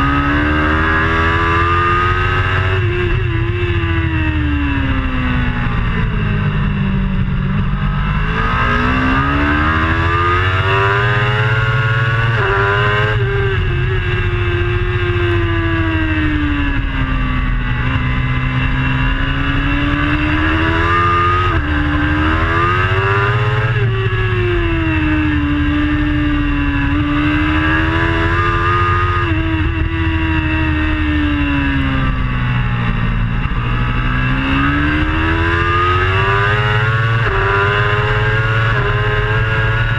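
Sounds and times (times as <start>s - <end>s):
superbike engine revving: 0.0s - 39.9s
wind and road noise: 0.0s - 39.9s.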